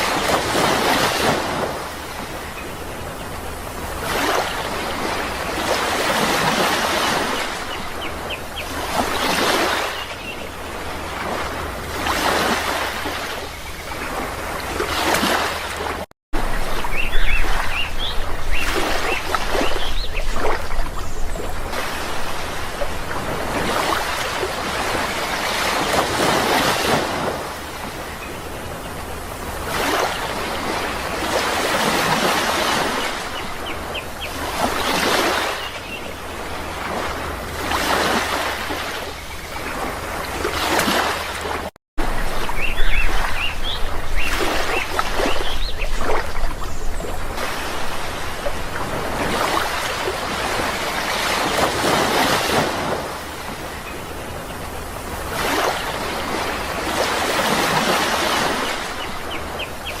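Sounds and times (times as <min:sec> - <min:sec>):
sea waves breaking: 0:00.0 - 1:00.0.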